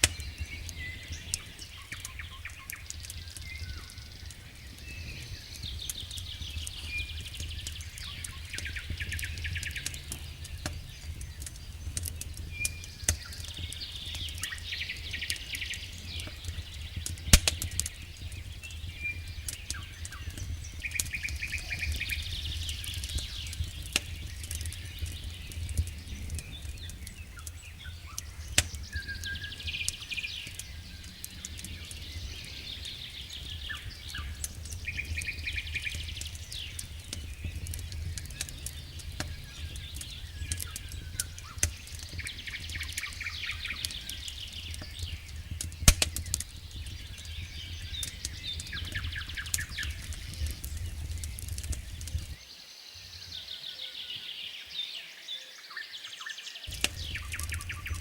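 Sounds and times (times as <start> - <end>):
sharp fire pops: 0.0 - 52.4, 56.7 - 58.0
fireplace fire crackling: 0.0 - 52.5, 56.7 - 58.0
birds chirping: 0.0 - 58.0.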